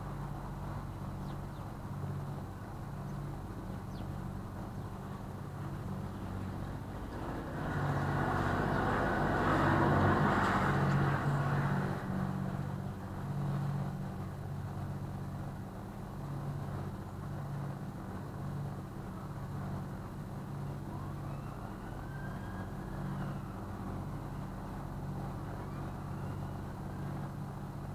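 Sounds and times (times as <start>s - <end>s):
boat engine humming: 0.0s - 27.9s
broad rushing noise: 0.0s - 27.9s.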